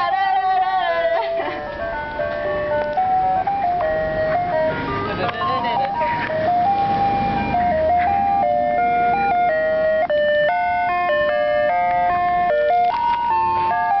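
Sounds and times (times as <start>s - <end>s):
ice cream van music box jingle: 0.0s - 14.0s.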